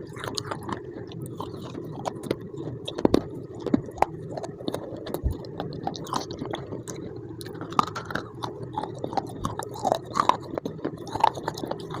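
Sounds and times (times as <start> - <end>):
crunchy food chewing: 0.0 - 12.0
faint steady hum: 0.0 - 12.0.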